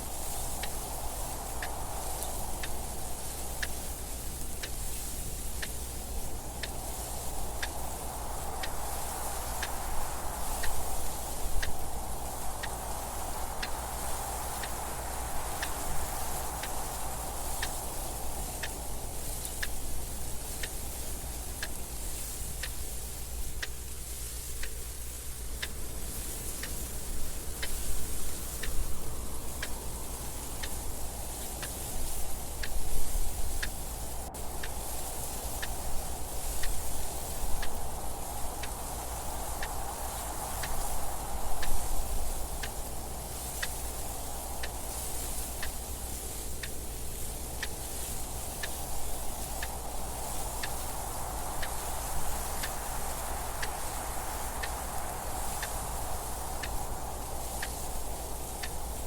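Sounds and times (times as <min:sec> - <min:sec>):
soft wind noise: 0:00.0 - 0:59.0
clock ticking: 0:05.6 - 0:59.0.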